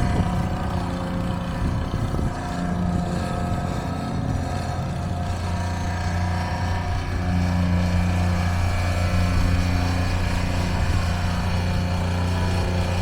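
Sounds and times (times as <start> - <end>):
earth-moving machinery engine running: 0.0 - 13.0.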